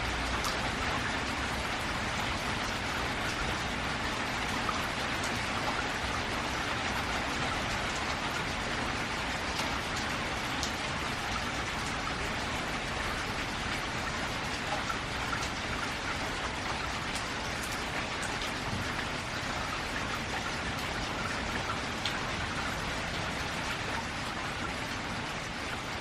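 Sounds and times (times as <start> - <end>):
rain on a metal roof: 0.0 - 26.0.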